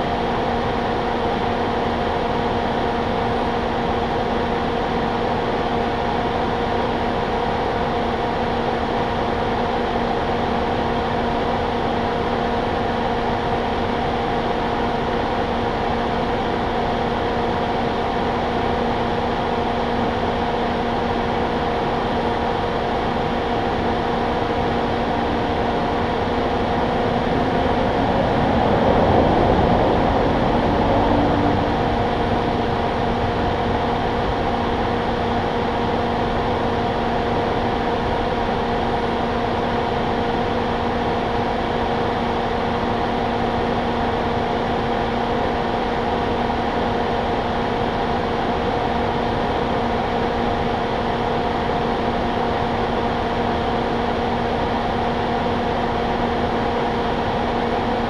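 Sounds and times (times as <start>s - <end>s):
idling vehicle hum: 0.0s - 58.0s.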